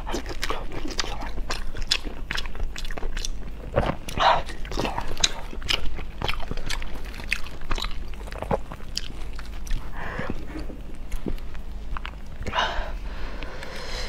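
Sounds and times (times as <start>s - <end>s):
chewing and mouth smacks: 0.0s - 12.6s.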